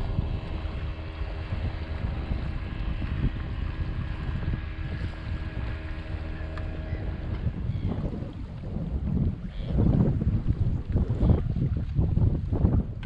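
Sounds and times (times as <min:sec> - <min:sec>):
motor hum: 0:00.0 - 0:13.0
wind buffeting microphone: 0:00.0 - 0:13.0.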